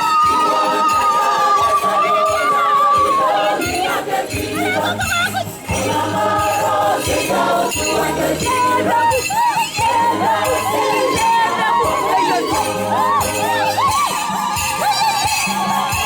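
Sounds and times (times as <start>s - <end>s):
choir singing a hymn: 0.0s - 16.0s
low rhythmic accompaniment: 0.0s - 16.0s.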